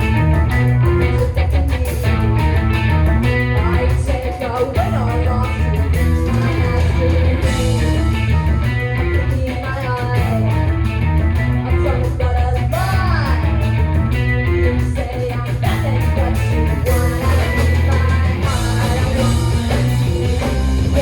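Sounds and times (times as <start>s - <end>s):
electric guitar: 0.0s - 21.0s
live rock band playing: 0.0s - 21.0s.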